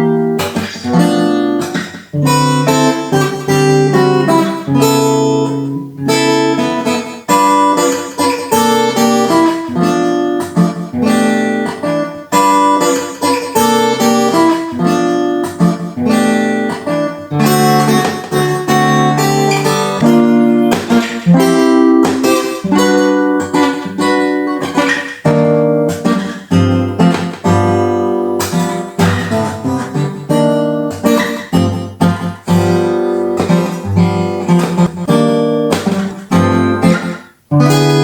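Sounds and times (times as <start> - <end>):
acoustic guitar chords: 0.0 - 38.0.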